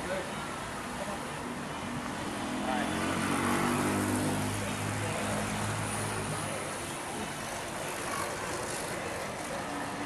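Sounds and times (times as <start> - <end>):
outdoor street noise: 0.0 - 10.0.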